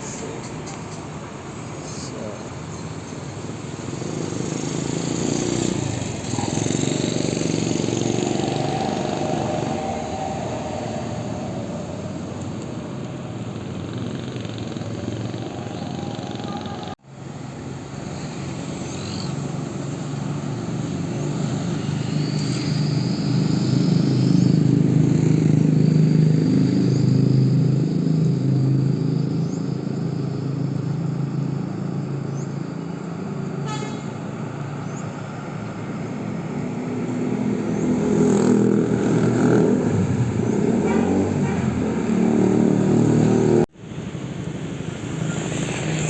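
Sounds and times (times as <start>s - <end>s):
bus diesel engine passing: 0.0s - 46.0s.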